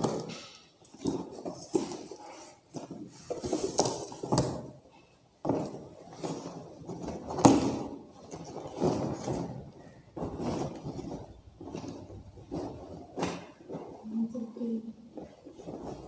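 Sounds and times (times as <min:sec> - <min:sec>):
fabric and packaging rustling: 0:00.0 - 0:16.0.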